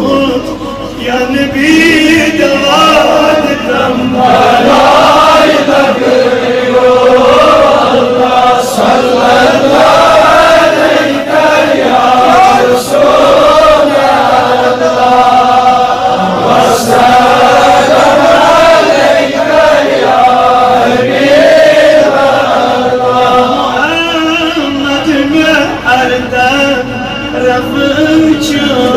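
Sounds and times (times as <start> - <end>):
man chanting devotional song: 0.0 - 28.9.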